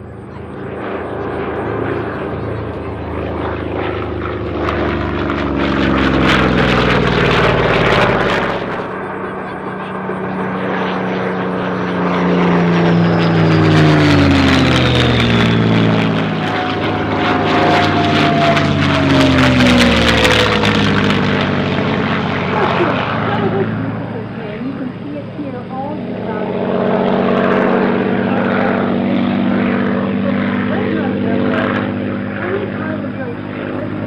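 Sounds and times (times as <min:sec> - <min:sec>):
propeller planes flying past: 0:00.0 - 0:34.0.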